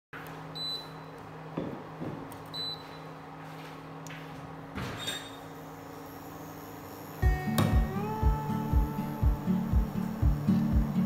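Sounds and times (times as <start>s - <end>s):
induction cooktop humming: 0.2s - 11.0s.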